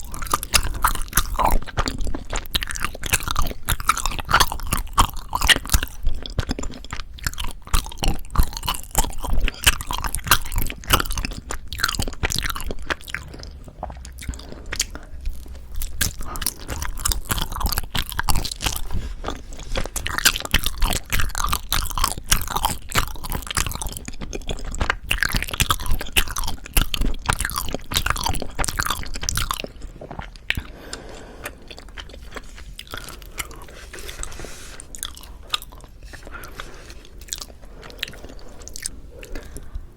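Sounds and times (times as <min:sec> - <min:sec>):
chewing with mouth clicks: 0:00.0 - 0:39.8.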